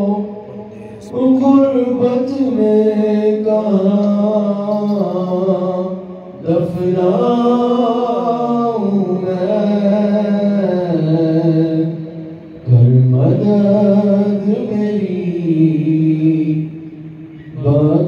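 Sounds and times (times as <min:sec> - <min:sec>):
man chanting a lament: 0:00.0 - 0:18.0.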